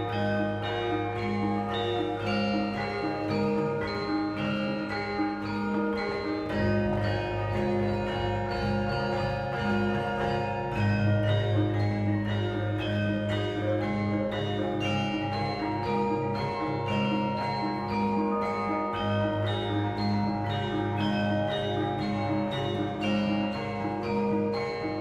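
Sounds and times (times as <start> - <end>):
instrumental music: 0.0 - 25.0.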